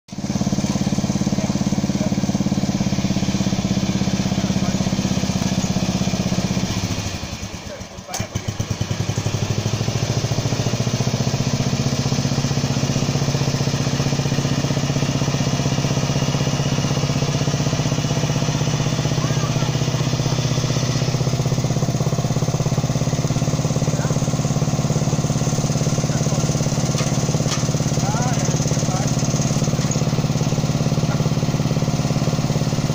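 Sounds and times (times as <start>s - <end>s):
lawn tractor engine running: 0.1s - 32.9s.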